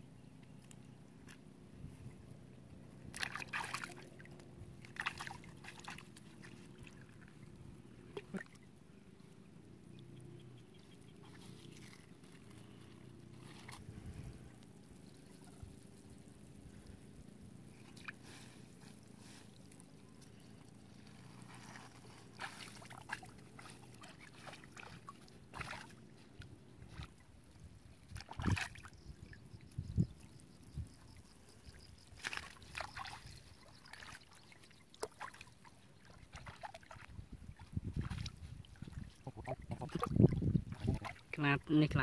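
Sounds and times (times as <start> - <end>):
water splashing and trickling: 0.4 - 42.0.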